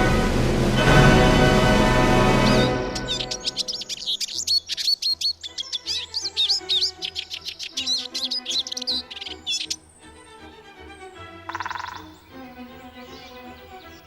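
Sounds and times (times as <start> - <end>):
soft background music: 0.0 - 14.0
songbirds chirping: 1.6 - 14.0.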